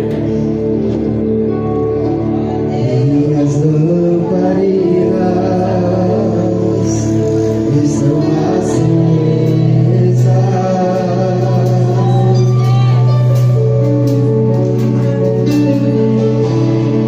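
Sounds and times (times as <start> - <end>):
gospel worship singing: 2.1 - 17.0.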